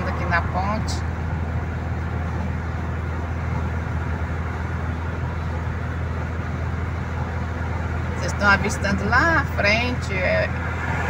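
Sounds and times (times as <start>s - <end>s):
car road noise drone: 0.0s - 11.0s.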